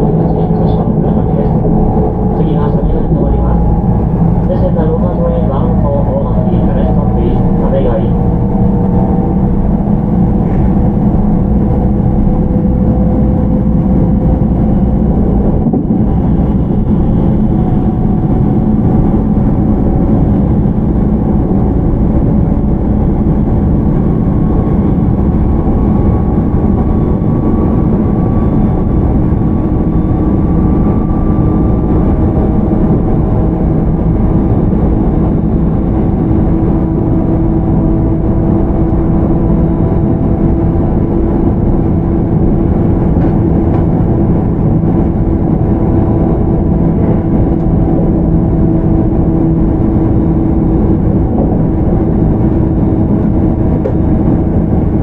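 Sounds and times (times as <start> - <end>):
train wheel and rolling noise: 0.0 - 55.0.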